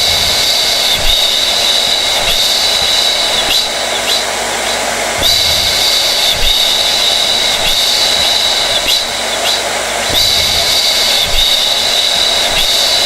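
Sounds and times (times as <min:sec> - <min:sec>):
blow dryer running: 0:00.0 - 0:13.0.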